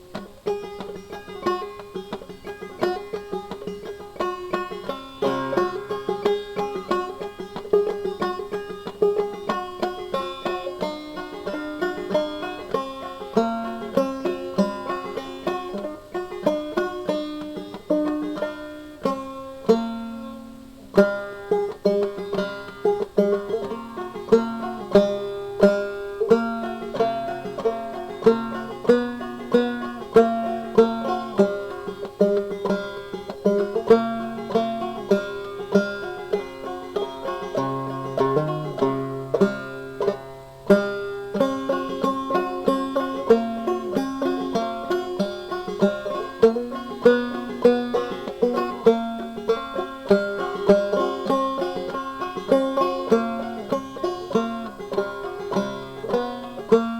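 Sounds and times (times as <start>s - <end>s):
bluegrass banjo music: 0.0s - 56.9s.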